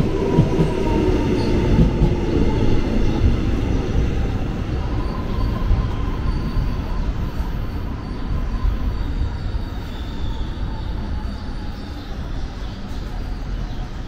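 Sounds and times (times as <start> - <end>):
subway train rumbling on rails: 0.0 - 14.0.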